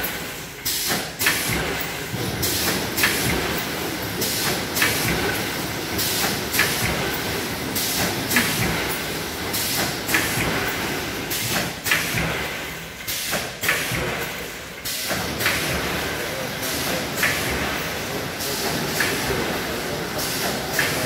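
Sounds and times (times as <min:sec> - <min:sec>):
mechanical hum: 0:00.0 - 0:21.0
packing machine hissing clacks: 0:00.0 - 0:21.0.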